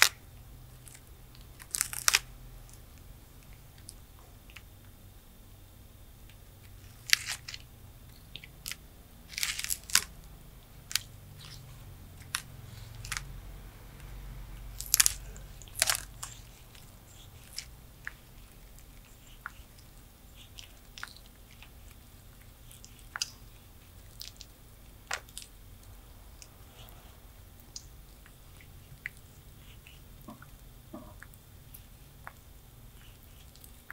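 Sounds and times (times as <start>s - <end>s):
tortoise chewing food: 0.0s - 33.9s.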